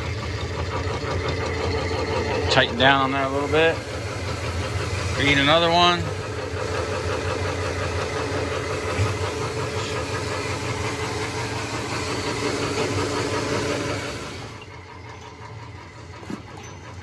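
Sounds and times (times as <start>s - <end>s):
machine motor and belt running: 0.0s - 17.0s
wire fed through rollers: 0.0s - 17.0s.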